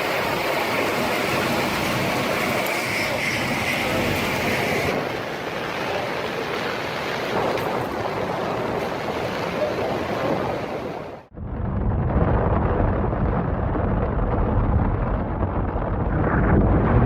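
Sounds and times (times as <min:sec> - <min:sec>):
strong wind rushing: 0:00.0 - 0:17.0.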